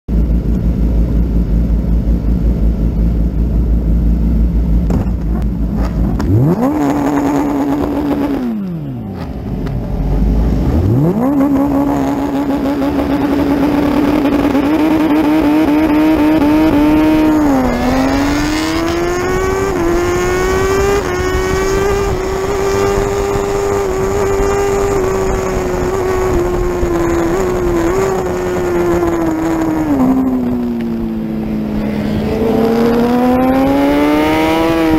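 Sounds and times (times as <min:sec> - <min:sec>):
racing motorcycle engine revving: 0:05.4 - 0:34.9.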